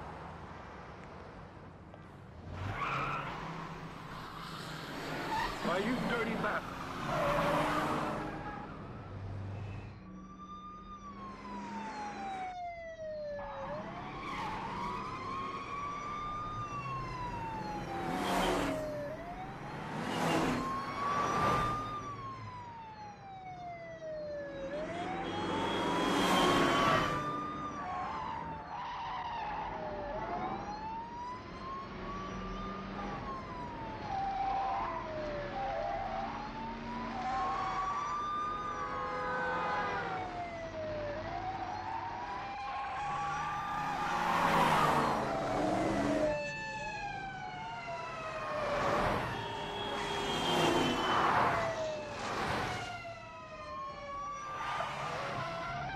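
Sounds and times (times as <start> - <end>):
cars racing: 2.3 - 10.2, 13.4 - 22.6, 24.3 - 55.9
police siren wailing: 2.4 - 55.9.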